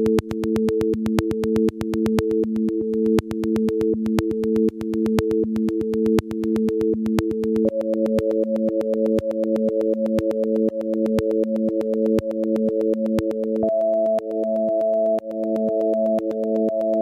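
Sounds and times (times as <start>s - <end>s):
electronic sine-wave tones: 0.0s - 17.0s.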